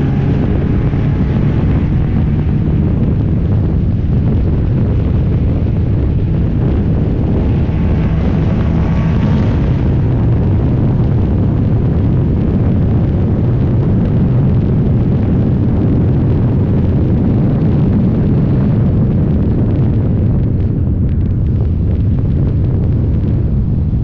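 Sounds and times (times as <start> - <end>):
race car engine at full throttle: 0.0 - 24.0
wind buffeting microphone: 0.0 - 24.0.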